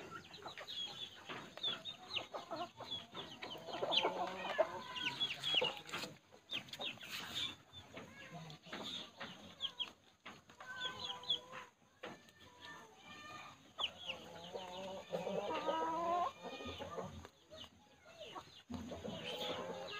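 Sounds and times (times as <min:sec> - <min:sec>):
chickens clucking: 0:00.0 - 0:19.9.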